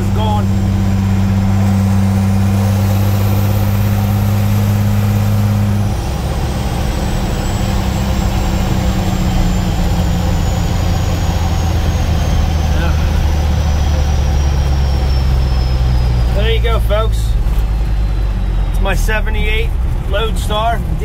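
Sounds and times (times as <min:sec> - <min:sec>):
diesel truck engine drone: 0:00.0 - 0:21.0
high turbo whine: 0:00.0 - 0:21.0.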